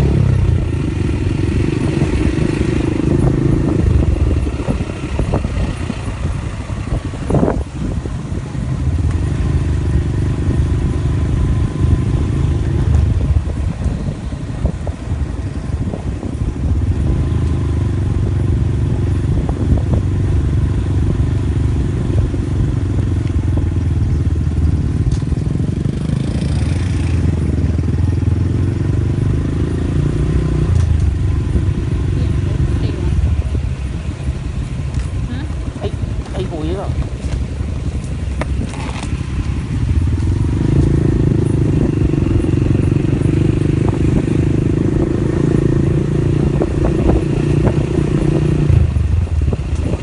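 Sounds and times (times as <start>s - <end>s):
vehicle engine rumbling: 0.0s - 50.0s.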